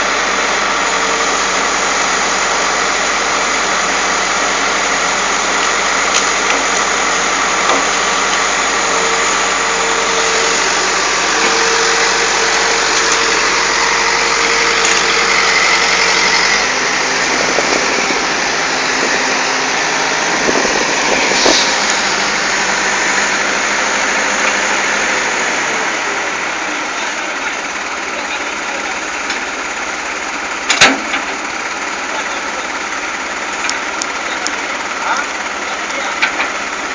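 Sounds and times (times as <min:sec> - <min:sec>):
excavator engine running: 0:00.0 - 0:36.9.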